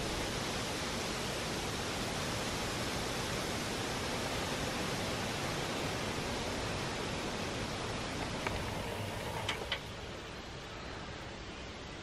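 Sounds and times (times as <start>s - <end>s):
strong wind through trees: 0.0s - 12.0s.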